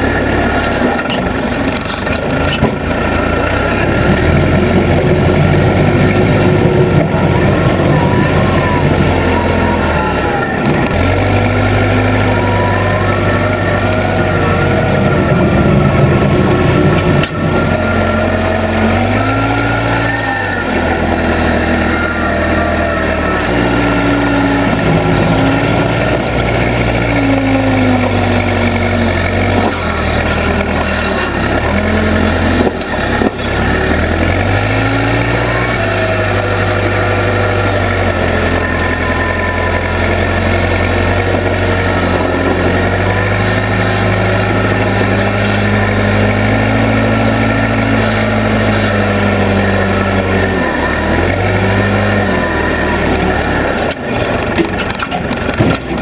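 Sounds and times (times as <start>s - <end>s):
backhoe engine under load: 0.0s - 56.0s.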